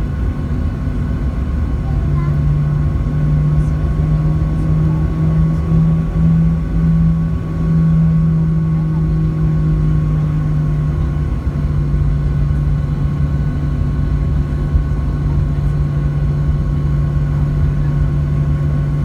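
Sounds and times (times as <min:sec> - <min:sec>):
jet engine humming: 0:00.0 - 0:19.0.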